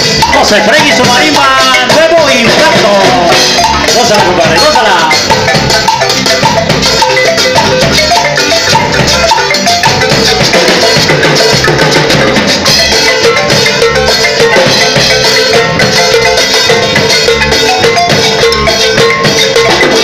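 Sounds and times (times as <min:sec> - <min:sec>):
drum kit: 0:00.0 - 0:20.0
marimba melody: 0:00.0 - 0:20.0.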